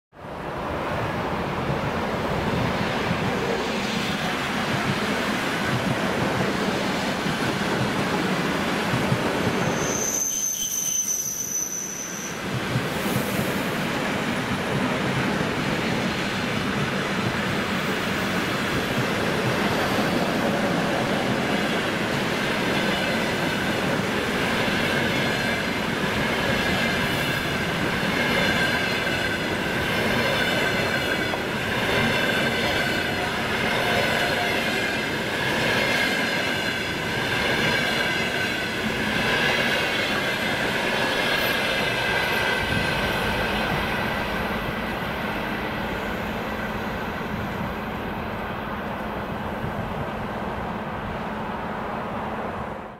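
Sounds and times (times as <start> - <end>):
train wheels rumbling on rail: 0.3 - 52.9.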